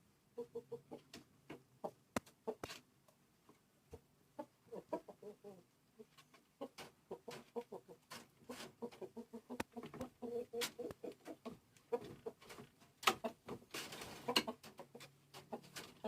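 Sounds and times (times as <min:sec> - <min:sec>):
chicken clucking: 0:00.4 - 0:02.7, 0:04.3 - 0:16.0.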